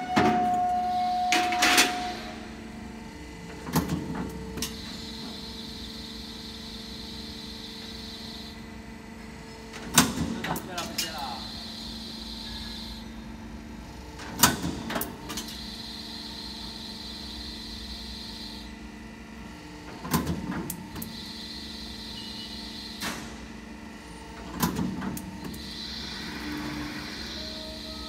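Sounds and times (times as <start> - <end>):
machine humming with whine: 0.0 - 9.8, 10.6 - 28.0.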